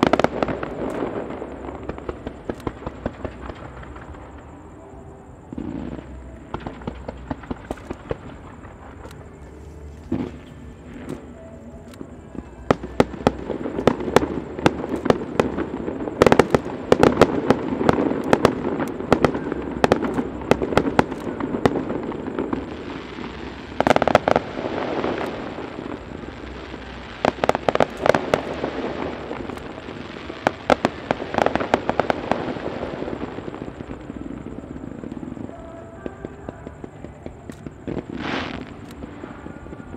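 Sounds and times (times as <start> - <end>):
rapid crackling bursts: 0.0 - 4.6, 5.5 - 39.9.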